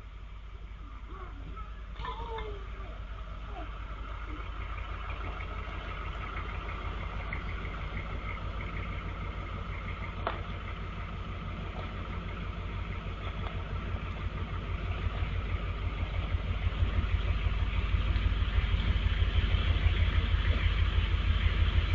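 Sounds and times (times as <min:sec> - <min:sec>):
pickup truck engine throbbing: 0:00.0 - 0:21.9.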